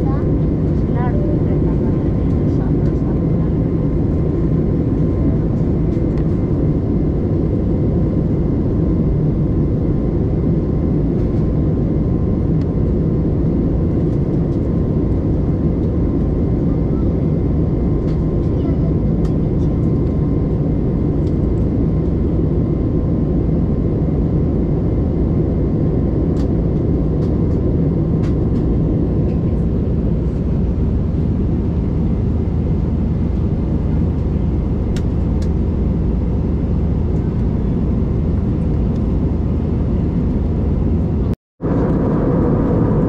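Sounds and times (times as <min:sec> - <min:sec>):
engine and airflow roar: 0:00.0 - 0:43.0.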